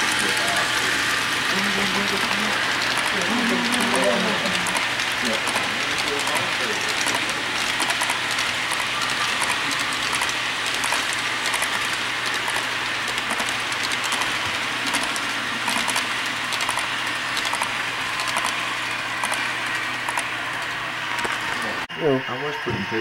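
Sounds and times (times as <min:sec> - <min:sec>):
model train wheels clicking: 0:00.0 - 0:20.3.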